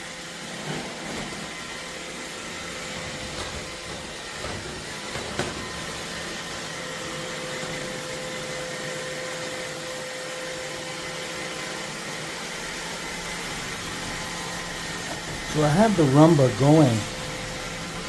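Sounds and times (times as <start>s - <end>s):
robot vacuum whirring: 0.0s - 18.0s.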